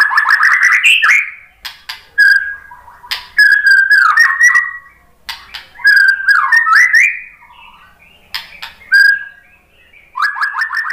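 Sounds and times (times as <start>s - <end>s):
bird singing whistled phrases: 0.0s - 1.6s, 2.2s - 10.9s.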